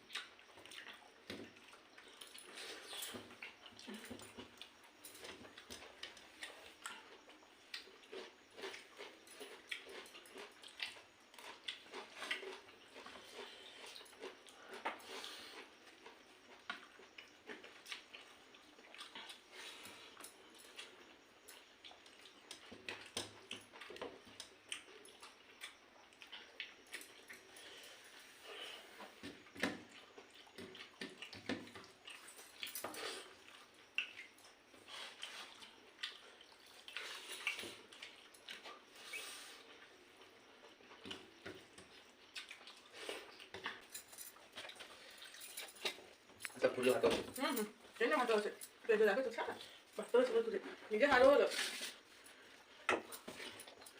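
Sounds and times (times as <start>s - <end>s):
person eating by hand: 0.0s - 47.1s, 51.5s - 53.9s
wet squelches of chewing: 0.0s - 53.9s.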